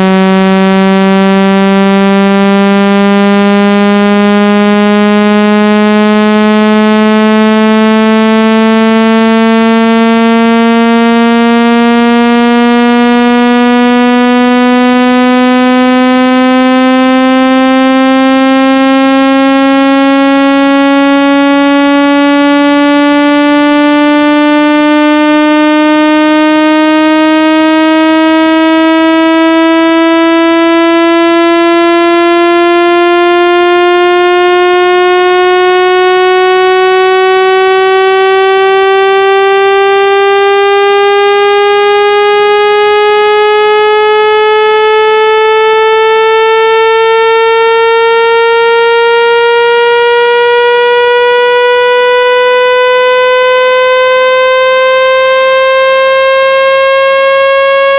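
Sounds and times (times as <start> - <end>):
buzzy rising tone: 0.0 - 57.9.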